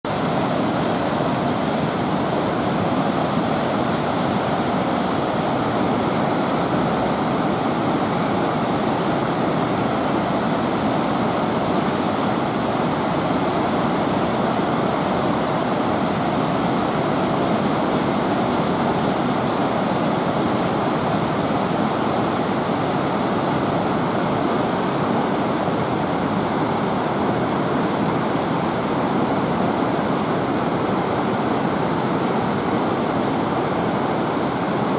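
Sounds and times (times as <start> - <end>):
flooded river water rushing: 0.1 - 34.9.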